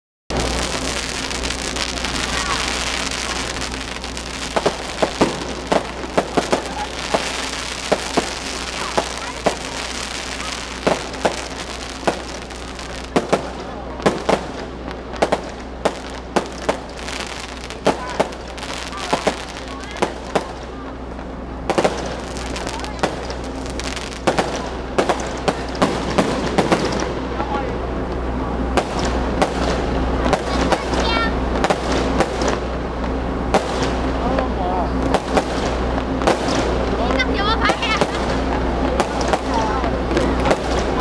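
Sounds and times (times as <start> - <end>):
fireworks bangs and pops: 0.3 - 41.0
fireworks crackling hiss: 0.3 - 41.0.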